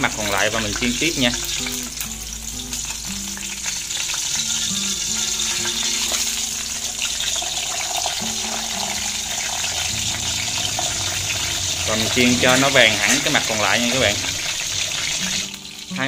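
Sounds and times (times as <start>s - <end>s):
fish sizzling in oil: 0.0s - 16.0s
soft background music: 0.0s - 16.0s.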